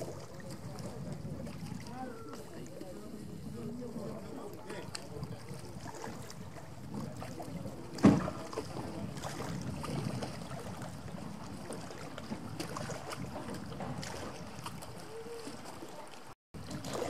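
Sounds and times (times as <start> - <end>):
wind rumble on microphone: 0.0 - 15.8.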